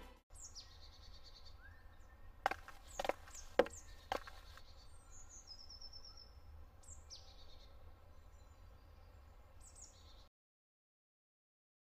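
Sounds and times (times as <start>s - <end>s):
birds chirping and trilling: 0.3s - 10.3s.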